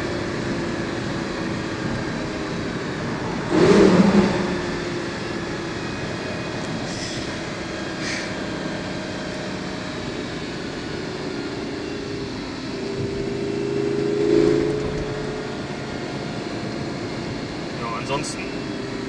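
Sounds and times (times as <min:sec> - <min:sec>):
car engine running in cabin: 0:00.0 - 0:19.0.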